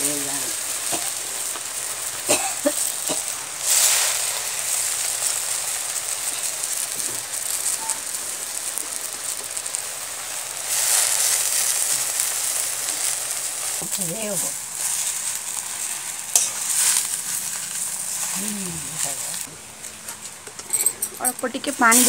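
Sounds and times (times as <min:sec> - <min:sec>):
leaves sizzling in hot oil: 0:00.0 - 0:20.4, 0:21.2 - 0:22.0.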